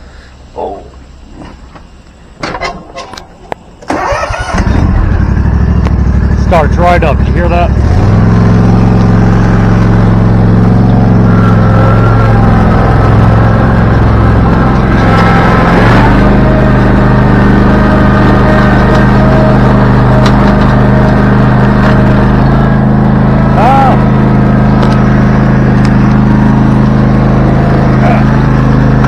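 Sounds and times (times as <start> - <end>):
lawn mower engine running: 2.4 - 29.0.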